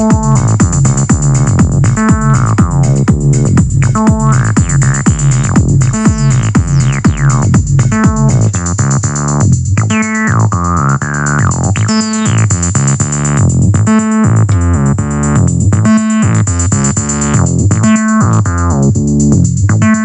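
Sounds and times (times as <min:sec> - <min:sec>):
bass synthesizer bassline: 0:00.0 - 0:20.0
drum machine beat: 0:00.0 - 0:20.0.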